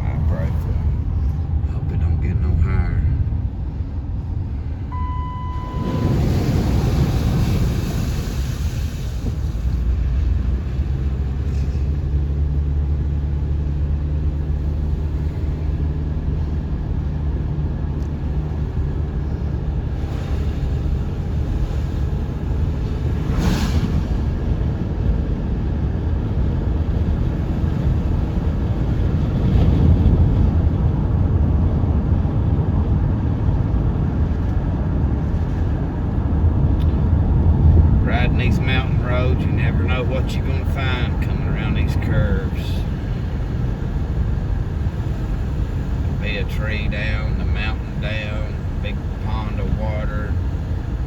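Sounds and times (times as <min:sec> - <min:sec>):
car engine and tyres rumbling: 0:00.0 - 0:51.0.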